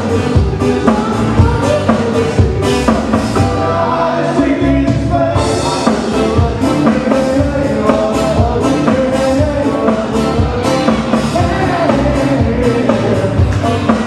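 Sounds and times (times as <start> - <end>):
drum kit beat: 0.0 - 14.0
live band music: 0.0 - 14.0.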